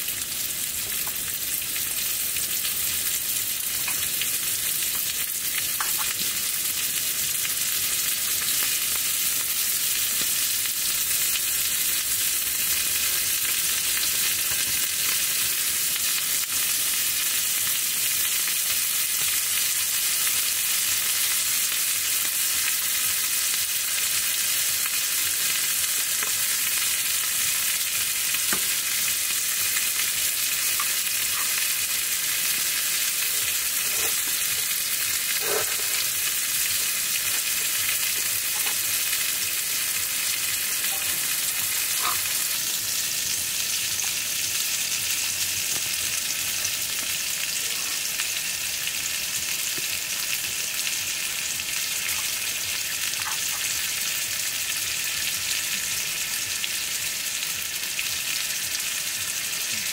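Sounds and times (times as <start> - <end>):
chicken sizzling on a grill: 0.0 - 59.9.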